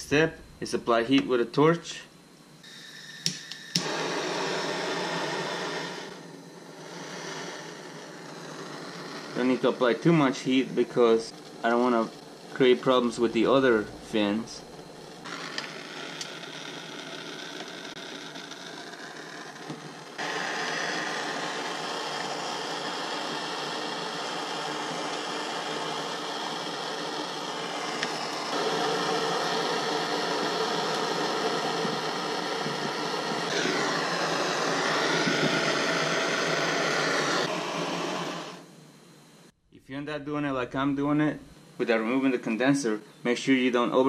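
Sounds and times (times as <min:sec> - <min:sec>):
hand torch hissing: 0:02.6 - 0:38.7.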